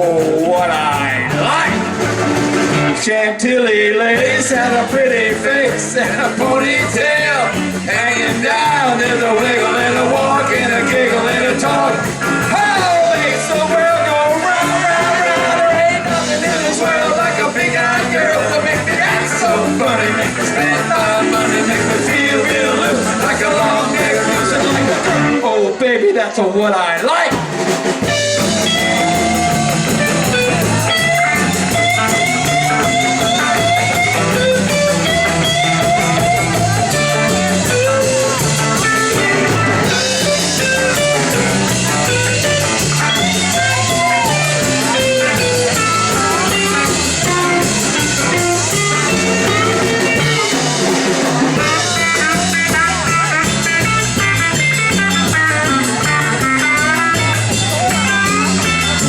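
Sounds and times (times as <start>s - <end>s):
lead guitar with bent notes: 0.0s - 59.0s
live rock band playing: 0.0s - 59.0s.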